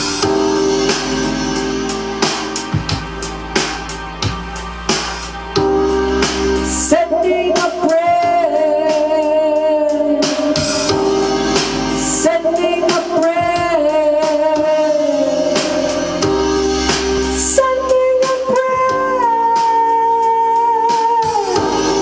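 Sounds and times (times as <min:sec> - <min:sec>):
drum beats: 0:00.0 - 0:22.0
instrumental backing: 0:00.0 - 0:22.0.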